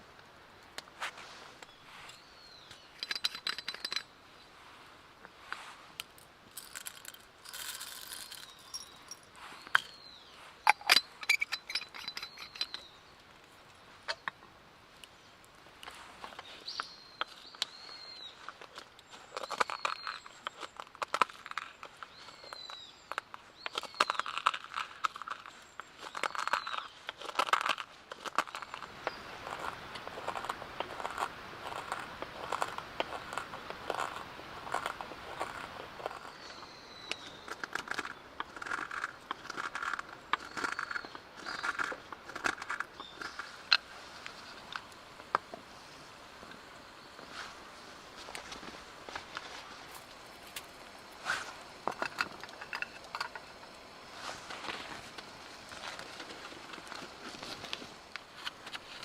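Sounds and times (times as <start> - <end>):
small objects clicking and rustling: 2.6 - 4.1, 6.0 - 10.0, 10.6 - 14.4, 15.8 - 45.6, 48.3 - 51.2, 51.8 - 59.0.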